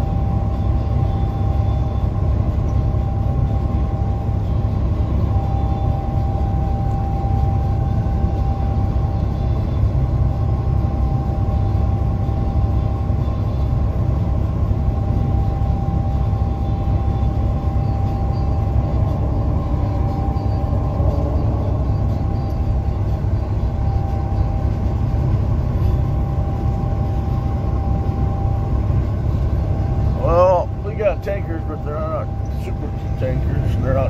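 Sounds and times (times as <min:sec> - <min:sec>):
thin steady tone: 0:00.0 - 0:34.0
truck cab road and engine rumble: 0:00.0 - 0:34.0.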